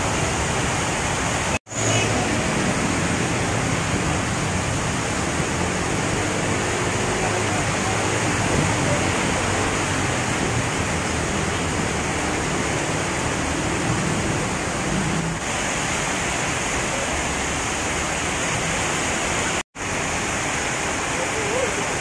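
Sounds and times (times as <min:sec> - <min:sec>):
heavy rain pouring: 0:00.0 - 0:22.0
trucks rumbling on wet road: 0:00.0 - 0:22.0.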